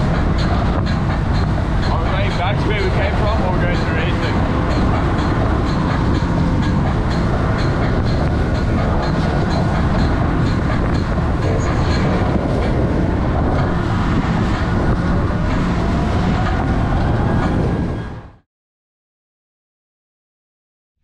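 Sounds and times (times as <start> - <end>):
powerboat engine drone: 0.0 - 18.4
wind noise on microphone: 0.0 - 18.4.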